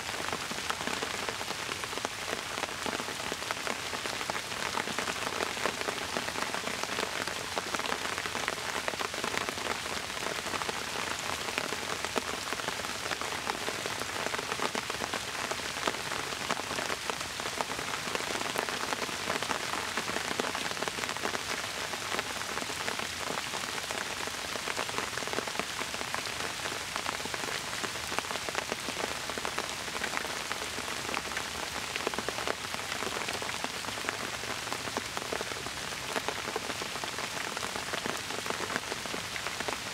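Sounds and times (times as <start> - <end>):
raindrops hitting close by: 0.0 - 39.9
steady rain: 0.0 - 39.9.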